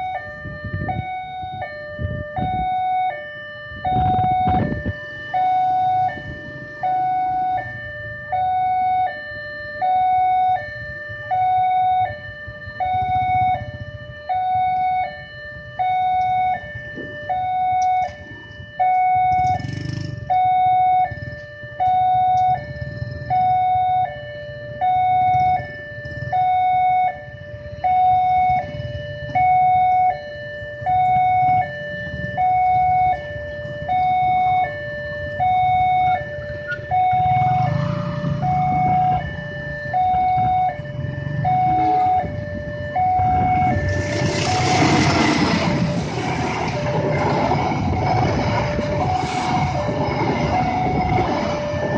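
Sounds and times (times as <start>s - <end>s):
motorcycle engines rumbling: 0.0s - 51.9s
two-tone crossing alarm: 0.0s - 51.9s.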